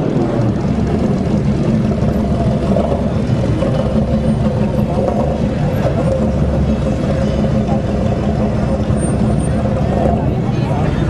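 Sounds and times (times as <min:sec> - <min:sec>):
car engine rumble passing: 0:00.0 - 0:11.0.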